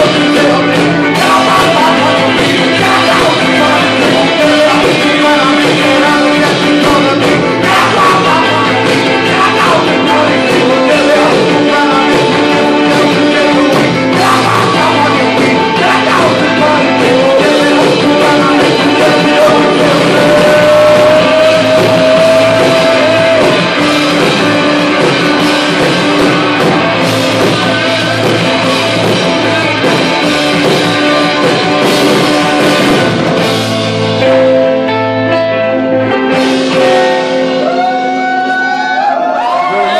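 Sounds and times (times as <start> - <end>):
drums: 0.0 - 39.9
electric guitars: 0.0 - 39.9.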